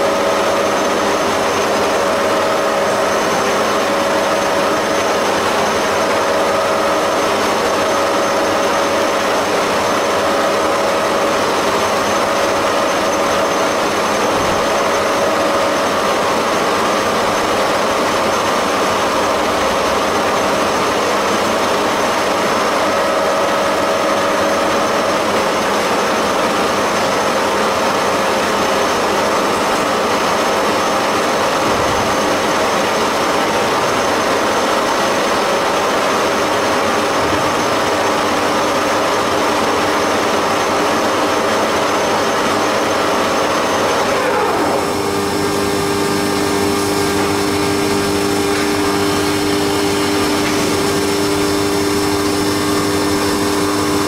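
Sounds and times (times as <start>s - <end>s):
constant machine whine: 0.0s - 54.0s
milling machine cutting: 0.0s - 54.0s.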